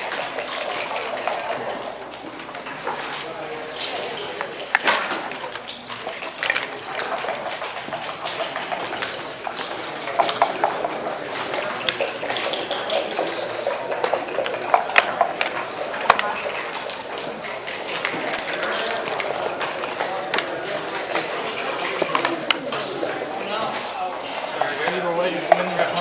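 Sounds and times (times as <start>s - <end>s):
checkers and dice clattering: 0.0s - 26.0s.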